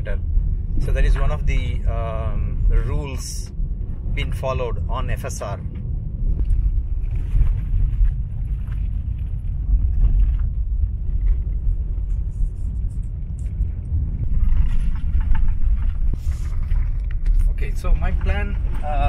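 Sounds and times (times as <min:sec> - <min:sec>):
tyres rumbling on gravel: 0:00.0 - 0:19.0.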